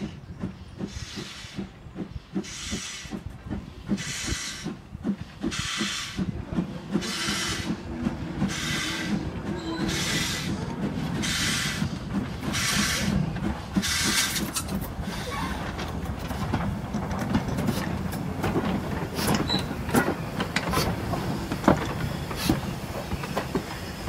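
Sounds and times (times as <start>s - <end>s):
locomotive low rumble: 0.0s - 24.0s
steam exhaust chuffs: 0.0s - 24.0s
wheels clanking over rail joints: 0.0s - 24.0s.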